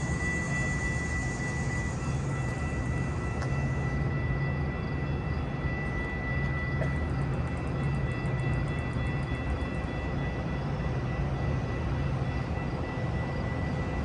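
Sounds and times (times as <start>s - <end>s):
commuter train rumbling: 0.0s - 14.0s
high whine: 0.0s - 14.0s.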